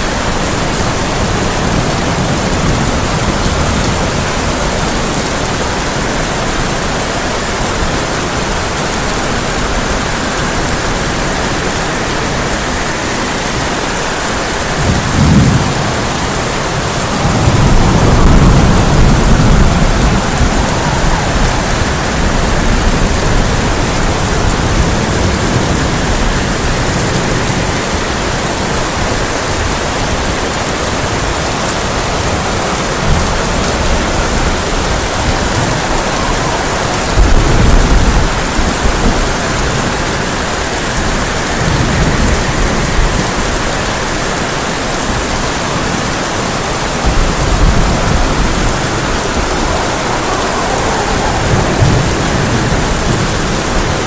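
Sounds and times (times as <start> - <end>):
heavy rain on a tin roof: 0.0 - 54.0
rolling thunder: 0.0 - 54.0.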